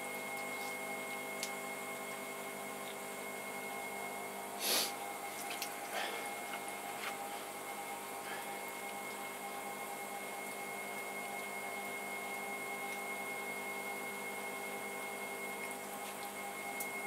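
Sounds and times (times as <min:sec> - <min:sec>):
pottery wheel motor hum: 0:00.0 - 0:17.0.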